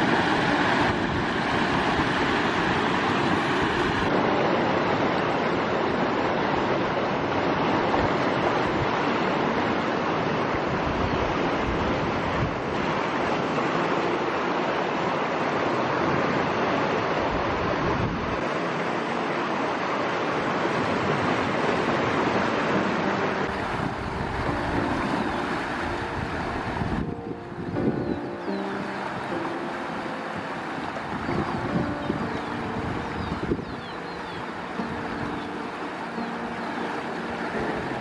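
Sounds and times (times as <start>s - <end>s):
water current rushing: 0.0s - 38.0s
water gushing from culvert: 0.0s - 38.0s.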